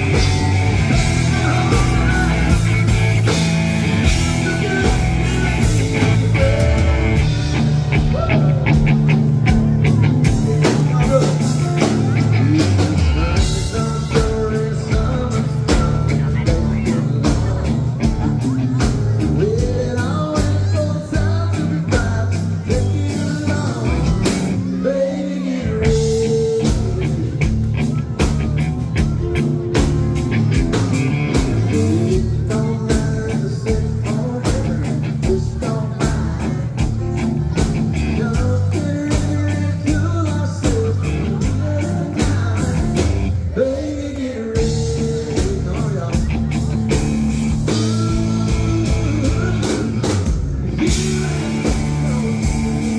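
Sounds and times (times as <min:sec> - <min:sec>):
man singing into microphone: 0:00.0 - 0:03.4, 0:04.0 - 0:07.5, 0:10.6 - 0:28.0, 0:31.3 - 0:46.7, 0:47.5 - 0:52.9
drum kit beat: 0:00.0 - 0:24.8, 0:25.7 - 0:52.9
sustained bass line: 0:00.0 - 0:52.9.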